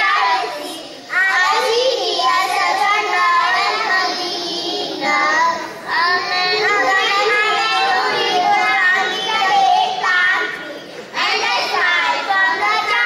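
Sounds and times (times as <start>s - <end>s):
girls singing together: 0.0s - 13.0s.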